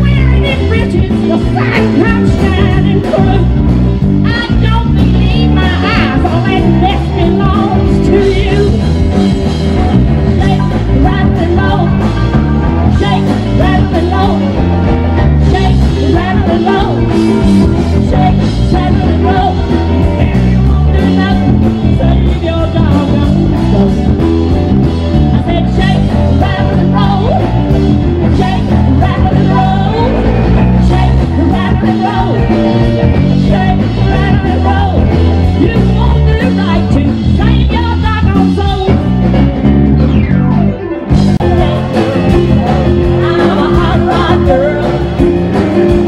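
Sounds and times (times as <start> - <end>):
steady drum beat: 0.0 - 40.2, 41.1 - 46.0
rock and roll singer: 0.0 - 46.0
walking bass line: 0.0 - 46.0.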